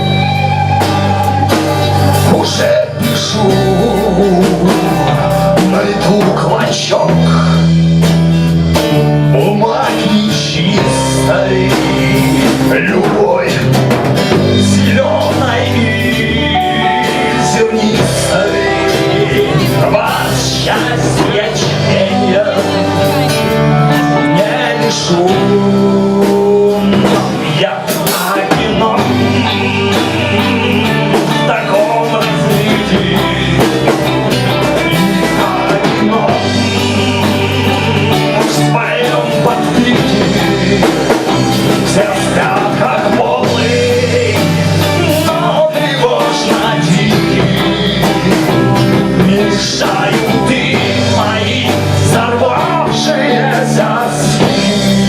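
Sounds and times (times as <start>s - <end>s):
bass guitar: 0.0s - 55.0s
drum kit: 0.0s - 55.0s
electric guitar: 0.0s - 55.0s
person singing: 0.0s - 55.0s.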